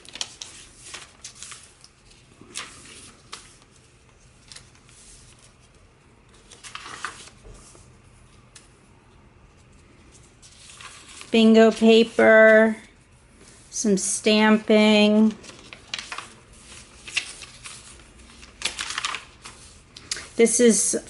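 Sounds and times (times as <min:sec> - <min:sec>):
paper pages rustling: 0:00.0 - 0:08.8, 0:09.5 - 0:13.7, 0:14.5 - 0:20.7.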